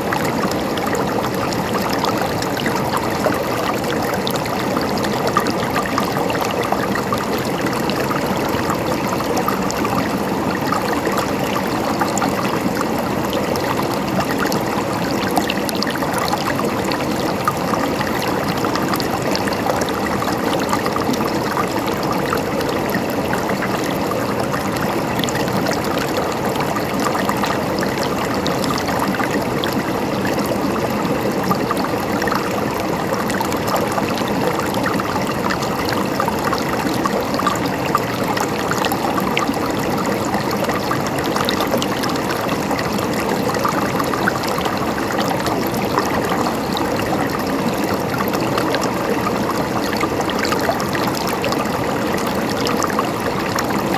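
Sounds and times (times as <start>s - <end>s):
stream babbling over rocks: 0.0s - 53.9s.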